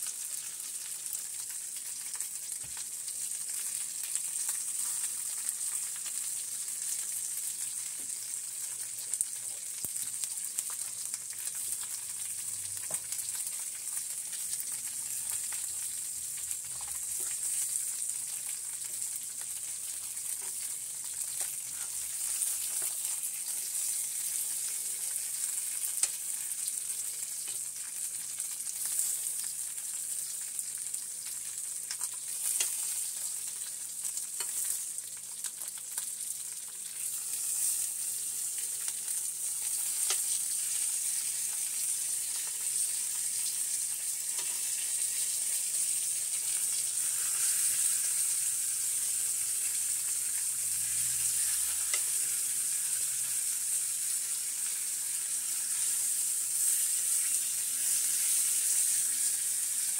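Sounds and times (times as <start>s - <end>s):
meat sizzling on a griddle: 0.0s - 59.9s.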